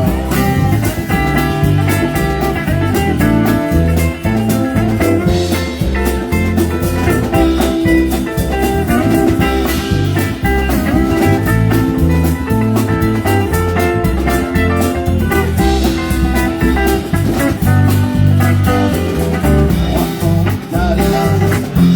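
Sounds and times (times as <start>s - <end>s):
bass: 0.0s - 21.9s
drums: 0.0s - 21.9s
guitar: 0.0s - 21.9s.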